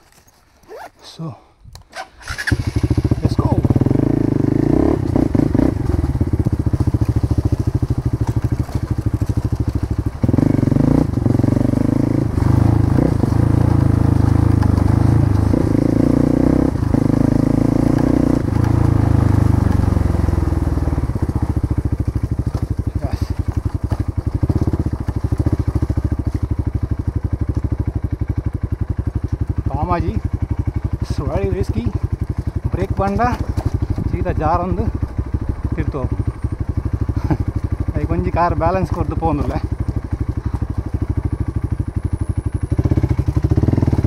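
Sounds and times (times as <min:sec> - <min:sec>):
motorcycle engine revving: 0:01.8 - 0:44.0.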